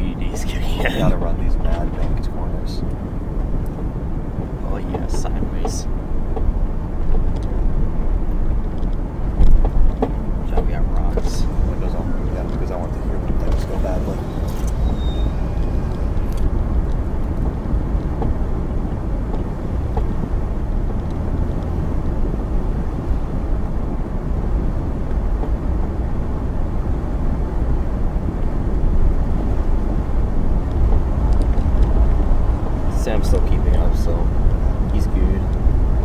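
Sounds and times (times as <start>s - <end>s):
car cabin rumble on dirt trail: 0.0s - 36.0s.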